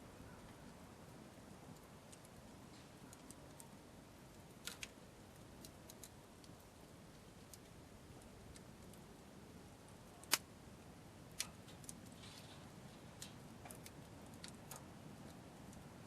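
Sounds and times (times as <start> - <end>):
campfire wood crackling: 0.0 - 16.0
faint low hiss: 0.0 - 16.0.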